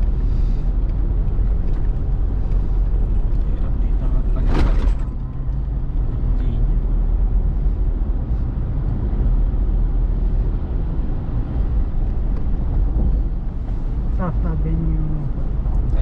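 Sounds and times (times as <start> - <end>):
car engine from inside cabin: 0.0 - 16.0
tyre road noise: 0.0 - 16.0.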